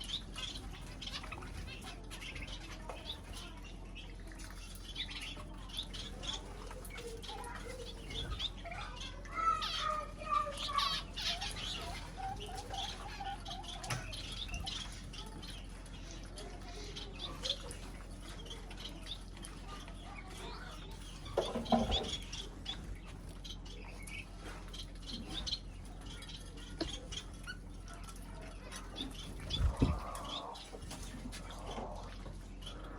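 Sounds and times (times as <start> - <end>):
small birds chirping and twittering: 0.0 - 32.9.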